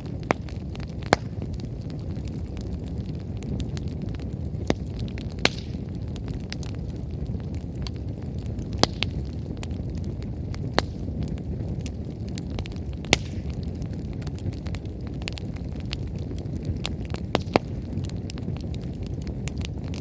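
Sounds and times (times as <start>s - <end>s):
bonfire flame roar: 0.0s - 20.0s
firewood crackles and pops: 0.0s - 20.0s.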